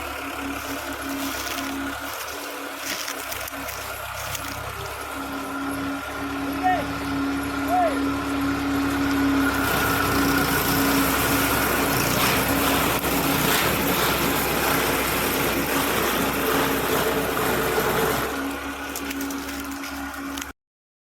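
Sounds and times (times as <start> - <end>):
harvester engine hum: 0.0 - 20.6.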